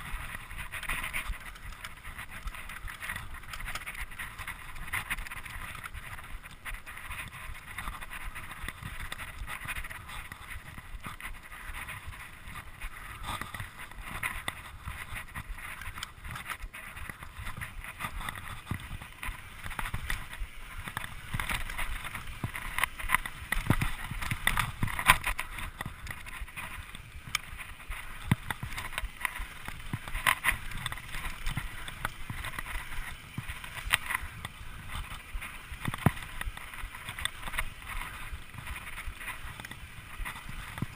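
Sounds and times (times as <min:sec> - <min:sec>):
bike knocking and rattling: 0:00.0 - 0:40.9
tyres rushing on dirt trail: 0:00.0 - 0:40.9.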